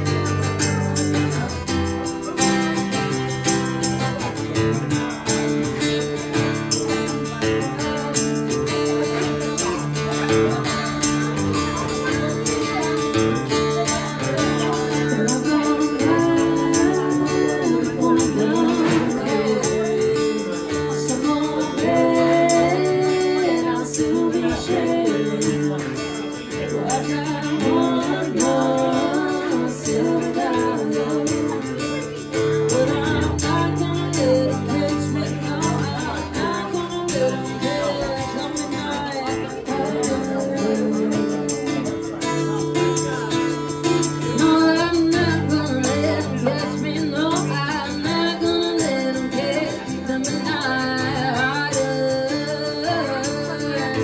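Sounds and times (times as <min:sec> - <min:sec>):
strummed acoustic guitar: 0:00.0 - 0:54.0
tambourine shaking: 0:00.0 - 0:54.0
woman singing: 0:05.9 - 0:11.0, 0:11.7 - 0:43.3, 0:44.2 - 0:54.0.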